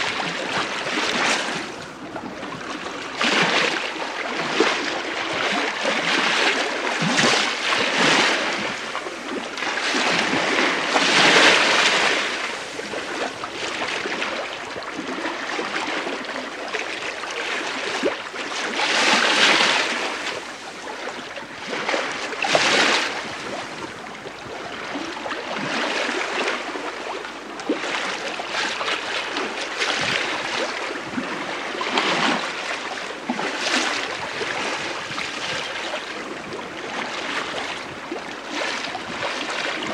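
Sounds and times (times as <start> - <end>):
water rushing along a hull: 0.0 - 39.9.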